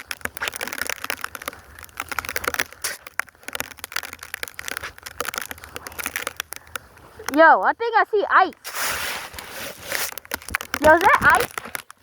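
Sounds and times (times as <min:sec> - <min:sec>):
snow crunching: 0:00.0 - 0:12.0.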